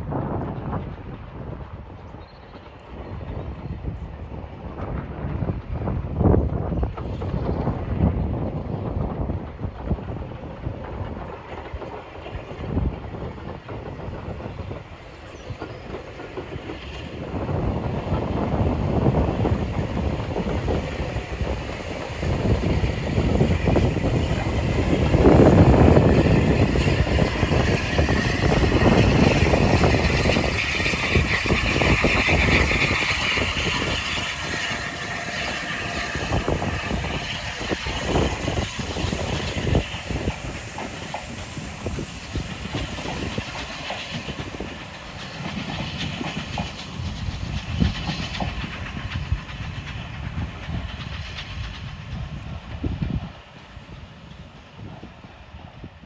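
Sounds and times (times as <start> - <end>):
train wheels clattering over track: 0.0 - 56.0.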